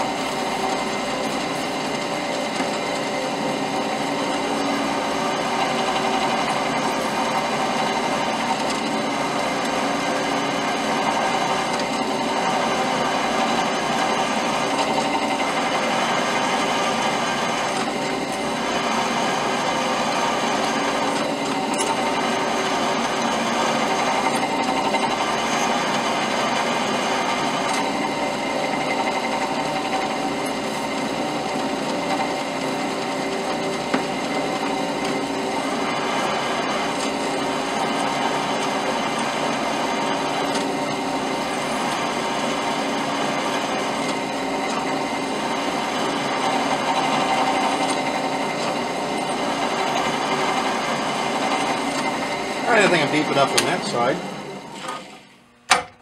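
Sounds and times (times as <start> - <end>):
drill bit grinding steel: 0.0 - 55.3
drill press motor hum: 0.0 - 56.0.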